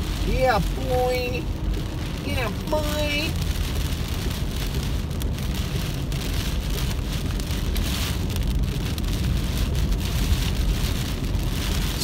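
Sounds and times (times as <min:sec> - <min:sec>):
heavy rain on car roof: 0:00.0 - 0:12.0
tyres on flooded road: 0:00.0 - 0:12.0.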